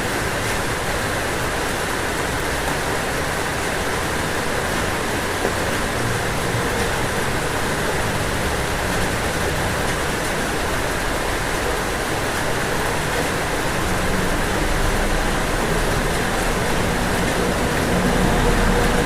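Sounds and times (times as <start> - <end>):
rain falling on a roof: 0.0 - 19.0.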